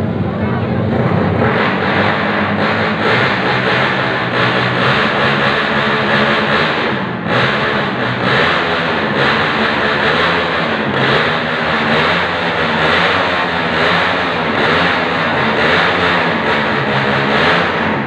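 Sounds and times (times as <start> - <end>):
small motorcycle engine revving: 0.9 - 18.0.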